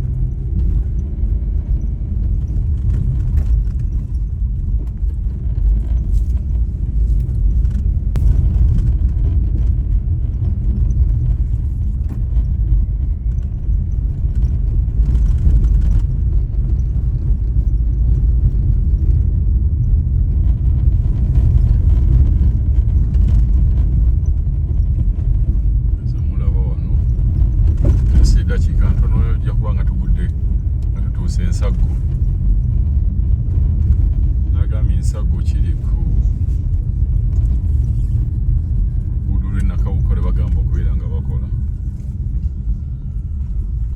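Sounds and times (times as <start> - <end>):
road noise: 0.0 - 43.9
vehicle engine rumble: 0.0 - 43.9.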